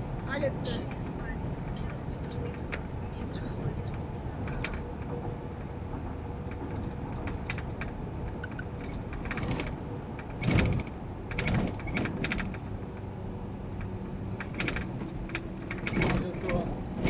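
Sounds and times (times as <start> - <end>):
road and engine noise inside van: 0.0 - 17.0
clatters and knocks: 1.8 - 13.1, 13.8 - 17.0.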